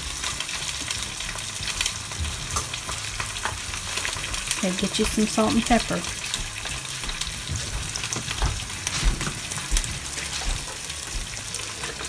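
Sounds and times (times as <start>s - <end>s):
eggs sizzling in a frying pan: 0.0s - 12.0s.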